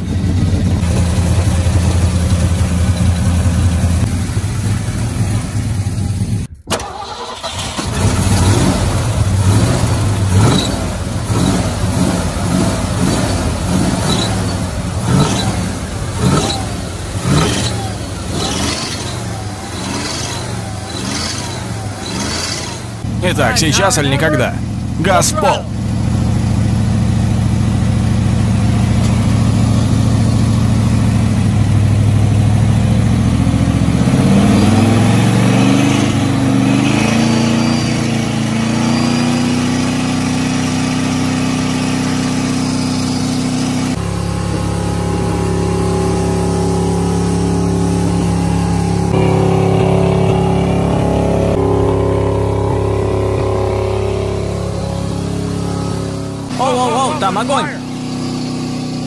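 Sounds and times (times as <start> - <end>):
truck engine over-revving: 0.0 - 23.2, 28.2 - 56.5.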